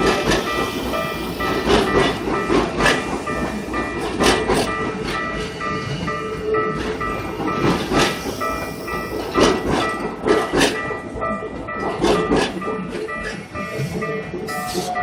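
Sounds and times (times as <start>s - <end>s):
level crossing warning bell: 0.0s - 15.0s
train wheels clacking on rails: 0.0s - 15.0s.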